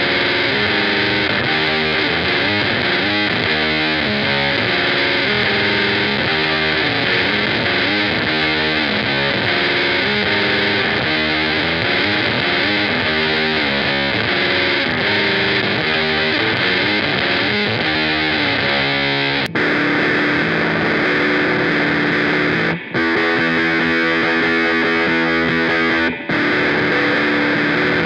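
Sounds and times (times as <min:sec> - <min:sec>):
distorted electric guitar riff: 0:00.0 - 0:28.0.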